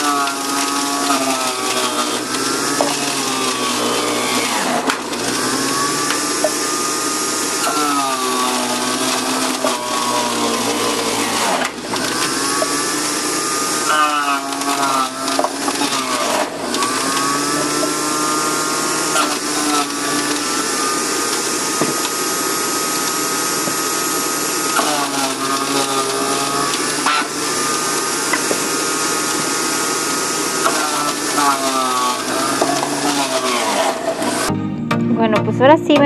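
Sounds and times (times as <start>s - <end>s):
carrots being shredded: 0.0s - 34.5s
juicer motor whine: 0.0s - 34.6s.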